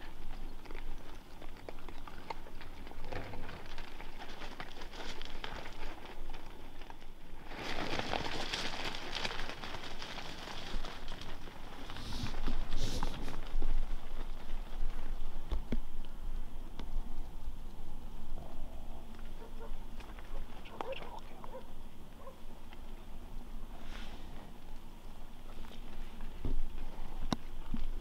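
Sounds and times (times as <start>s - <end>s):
crunching of grain on gravel: 0.0s - 17.1s, 18.4s - 28.0s
patter of hooves: 0.0s - 23.1s, 23.7s - 28.0s.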